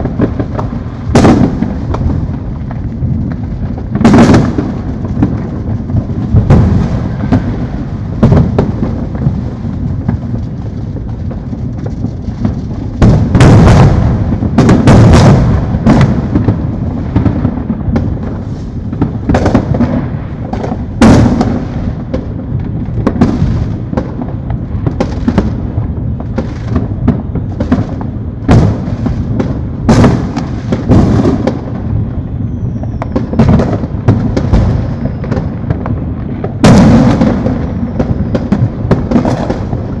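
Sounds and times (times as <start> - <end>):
distant fireworks rumbling: 0.0 - 40.0
fireworks bangs and pops: 0.0 - 40.0.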